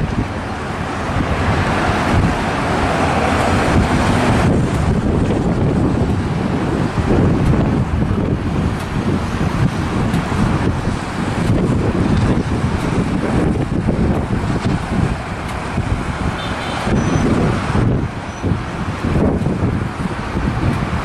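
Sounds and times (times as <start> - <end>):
jet engines at takeoff thrust: 0.0 - 21.0
wind buffeting microphone: 0.0 - 21.0.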